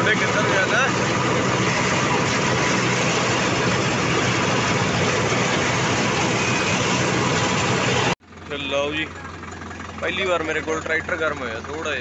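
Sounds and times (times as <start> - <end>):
mulcher noise: 0.0 - 12.0
tractor diesel engine running: 0.0 - 12.0.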